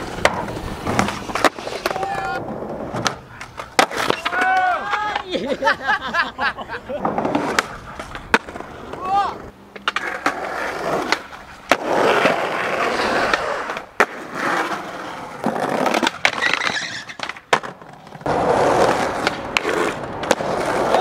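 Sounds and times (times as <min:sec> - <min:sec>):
skateboard popping and landing clacks: 0:00.0 - 0:05.3, 0:07.0 - 0:21.0
skateboard wheels rolling on pavement: 0:00.0 - 0:21.0.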